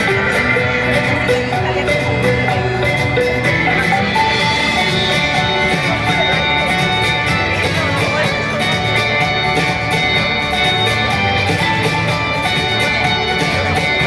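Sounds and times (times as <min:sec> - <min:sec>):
guitar music over a beat: 0:00.0 - 0:14.0.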